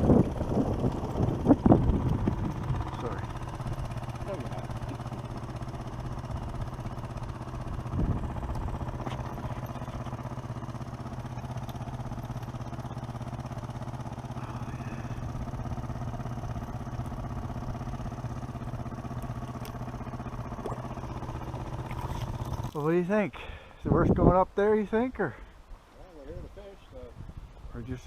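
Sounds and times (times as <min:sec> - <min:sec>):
outboard motor idling: 0:00.0 - 0:26.8.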